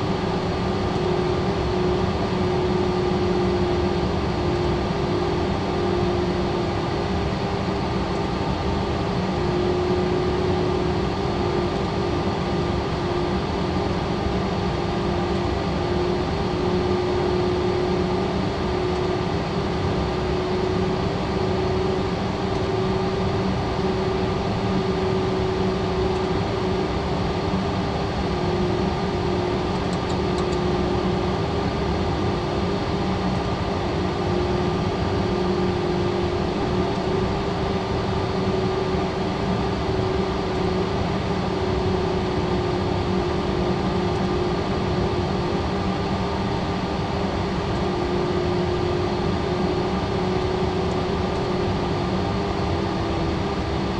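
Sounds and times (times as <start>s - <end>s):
jet cockpit airflow: 0.0s - 53.9s
jet engines humming: 0.0s - 53.9s.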